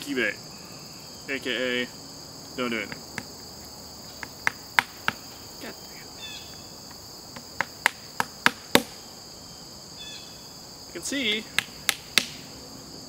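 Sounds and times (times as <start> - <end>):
high insect chorus: 0.0 - 13.0.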